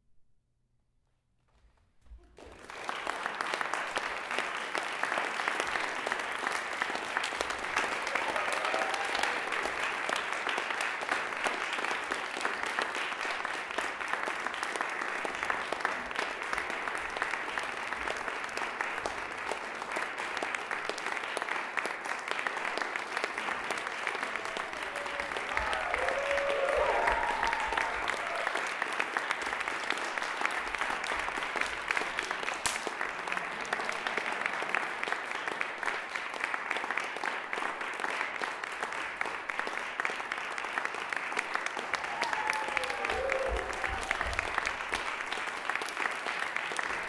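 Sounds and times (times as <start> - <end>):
audience applause: 2.2 - 47.0.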